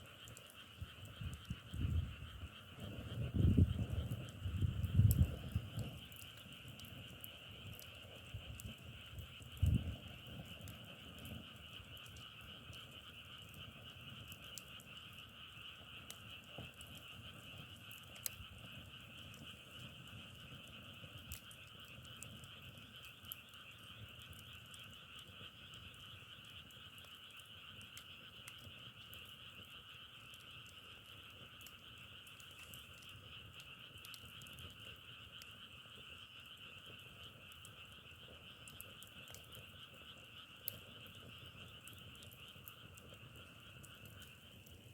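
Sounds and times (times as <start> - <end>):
frogs calling: 0.0 - 44.9
faint clicks: 2.8 - 44.9.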